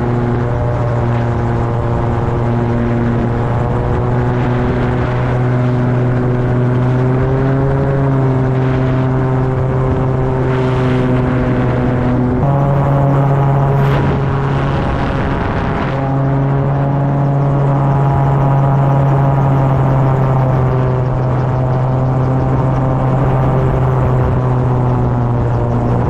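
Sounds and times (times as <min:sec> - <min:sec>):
gyrocopter engine and propeller droning: 0:00.0 - 0:26.0.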